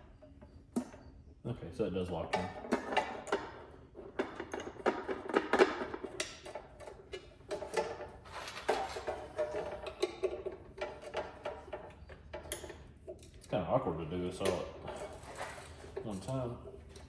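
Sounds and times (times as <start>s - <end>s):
metal tools clinking and knocking: 2.2s - 13.6s, 14.3s - 17.0s.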